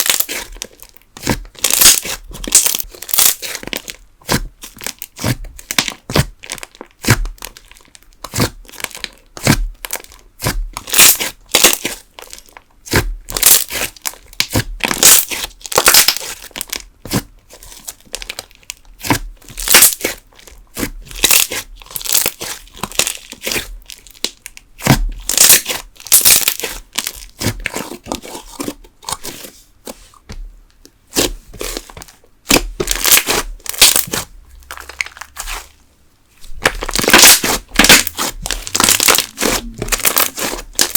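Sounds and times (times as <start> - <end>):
slime crackling and popping: 0.0 - 16.9, 17.6 - 28.2, 31.1 - 35.8, 36.4 - 40.9.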